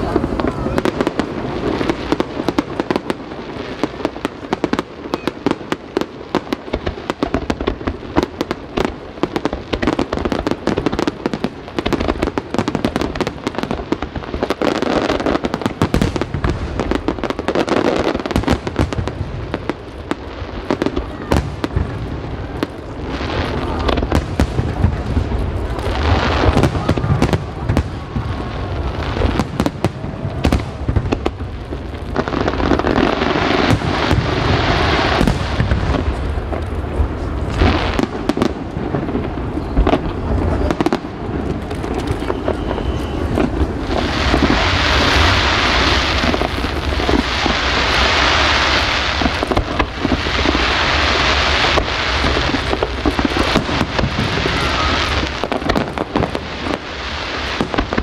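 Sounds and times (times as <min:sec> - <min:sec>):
fireworks bangs and booms: 0:00.0 - 0:58.0
fireworks crackling and fizzing: 0:00.0 - 0:58.0.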